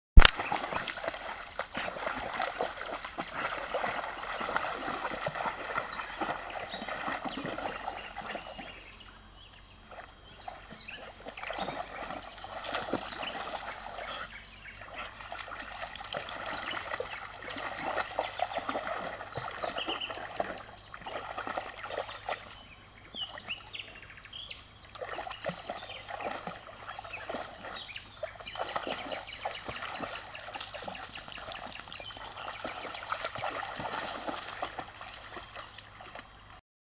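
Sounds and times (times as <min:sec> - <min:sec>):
dogs splashing in water: 0:00.2 - 0:09.1, 0:09.8 - 0:23.7, 0:24.8 - 0:36.6.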